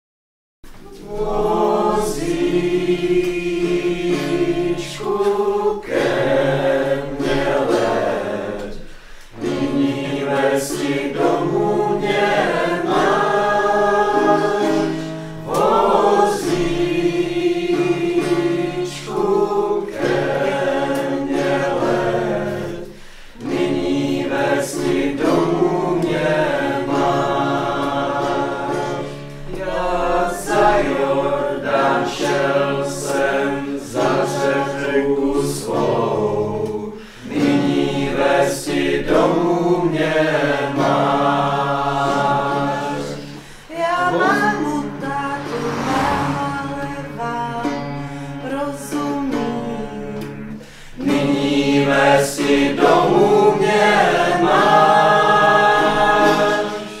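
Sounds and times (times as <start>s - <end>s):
choir singing long notes: 0.7s - 57.0s.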